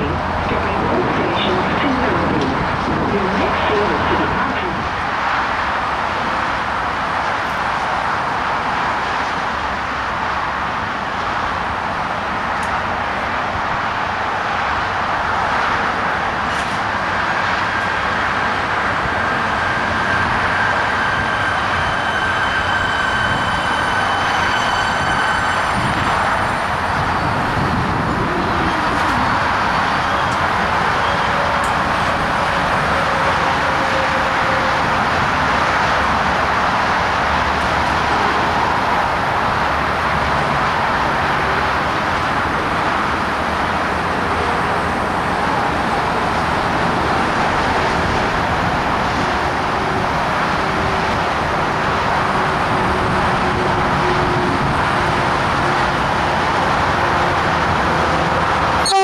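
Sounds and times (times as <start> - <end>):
electric train hum: 0.0 - 59.0
road traffic roar: 0.0 - 59.0.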